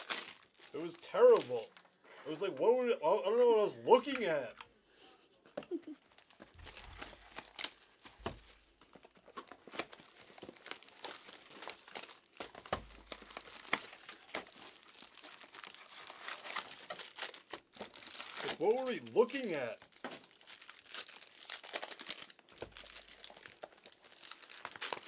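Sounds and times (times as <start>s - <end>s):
foil wrappers crinkling and tearing: 0.0s - 1.8s, 6.0s - 25.0s.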